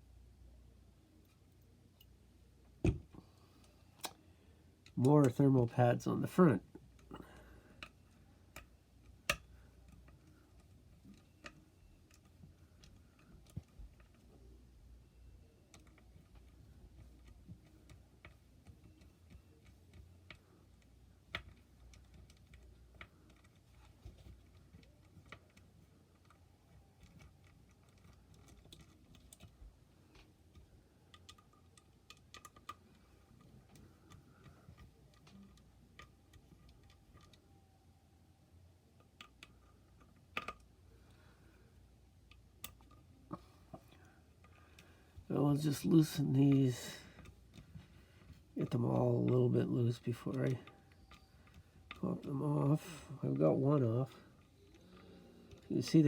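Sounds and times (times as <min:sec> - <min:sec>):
faint clicks and taps of handling: 0:01.1 - 0:05.7, 0:06.7 - 0:37.6, 0:38.8 - 0:56.0.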